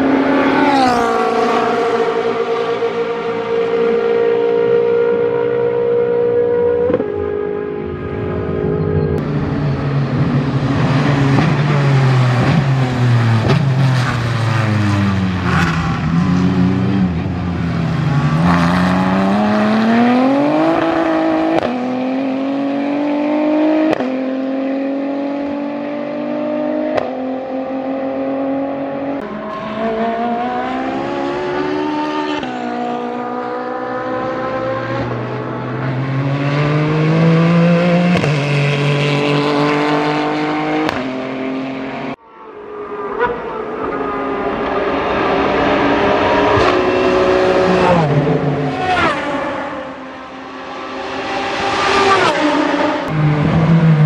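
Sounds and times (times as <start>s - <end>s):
race car engines at full throttle: 0.0s - 54.0s.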